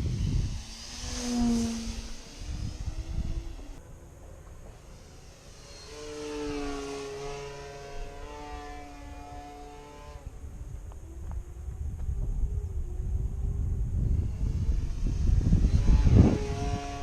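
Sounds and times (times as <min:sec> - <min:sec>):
model airplane motor whining: 0:00.0 - 0:17.0
wind rumble on microphone: 0:00.0 - 0:17.0.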